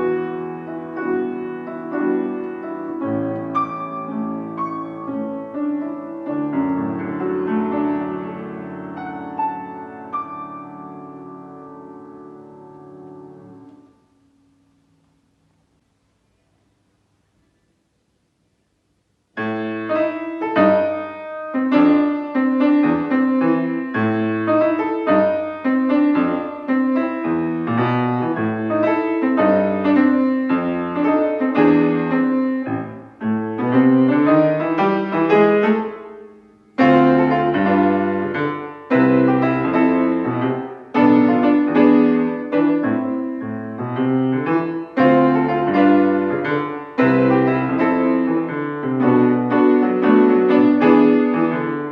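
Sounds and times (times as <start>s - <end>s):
solo piano melody: 0.0s - 51.9s.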